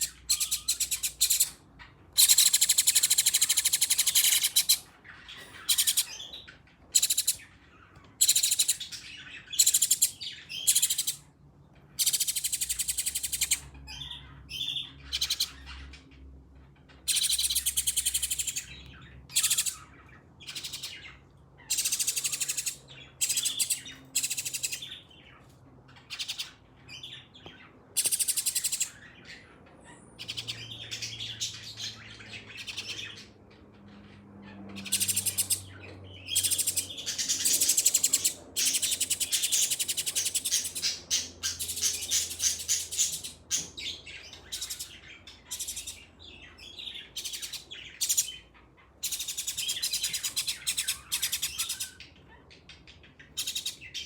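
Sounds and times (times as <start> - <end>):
nestling birds chirping: 0.0 - 54.0.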